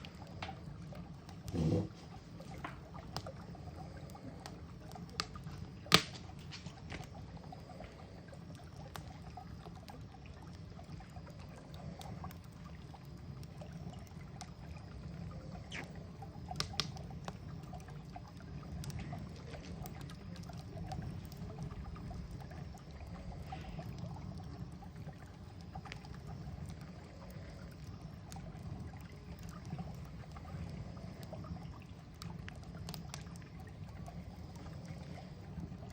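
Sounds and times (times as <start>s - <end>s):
campfire crackling and popping: 0.0s - 35.9s.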